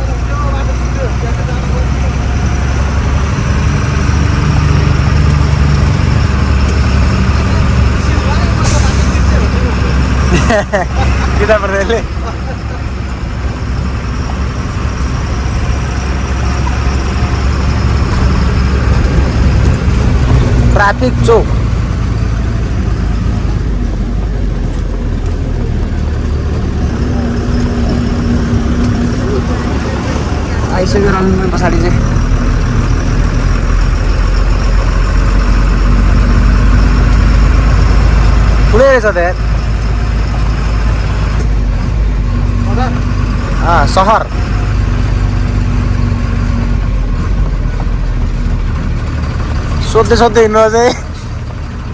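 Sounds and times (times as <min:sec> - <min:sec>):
road noise: 0:00.0 - 0:51.9
truck diesel engine running: 0:00.0 - 0:51.9.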